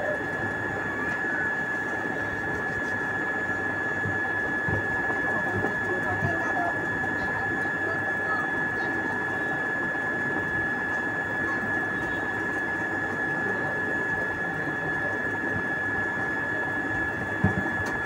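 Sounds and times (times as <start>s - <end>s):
motor hum with high whine: 0.0s - 18.0s.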